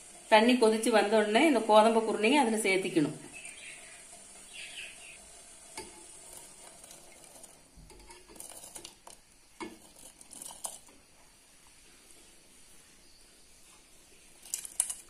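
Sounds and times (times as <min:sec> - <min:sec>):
water hissing toward boil: 0:00.0 - 0:13.0.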